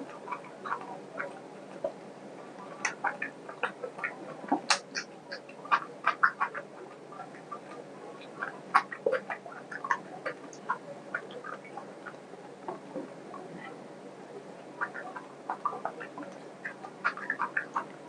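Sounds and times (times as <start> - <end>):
man chewing food: 0.0 - 13.8, 14.8 - 18.0.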